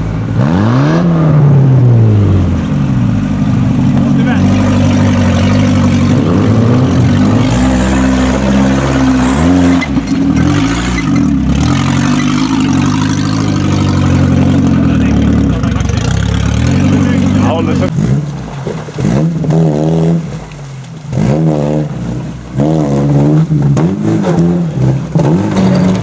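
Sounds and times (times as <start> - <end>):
off-road engine revving: 0.0 - 26.0.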